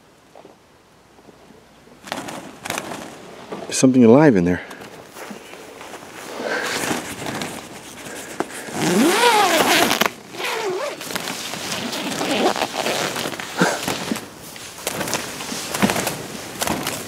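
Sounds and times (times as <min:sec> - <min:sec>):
rustling and crackling: 0:01.2 - 0:17.0.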